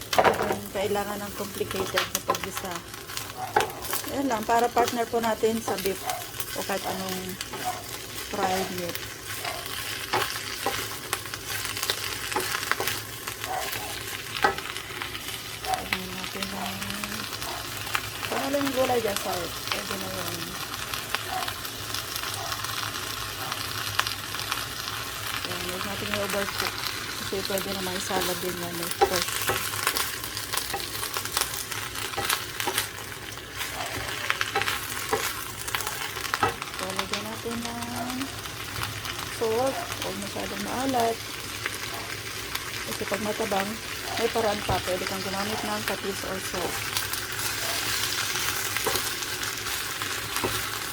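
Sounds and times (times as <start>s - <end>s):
vegetables sizzling in a pan: 0.0s - 50.9s.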